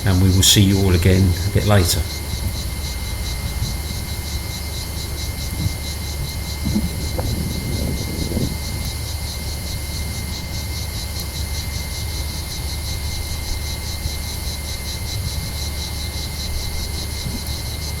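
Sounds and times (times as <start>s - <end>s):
cicadas singing: 0.0s - 18.0s
constant low rumble: 0.0s - 18.0s.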